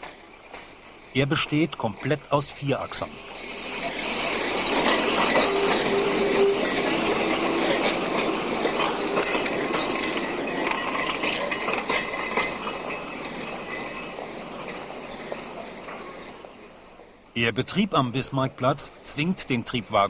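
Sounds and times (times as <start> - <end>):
tram wheels clattering over rails: 0.0 - 20.0
tram whine: 0.0 - 20.0.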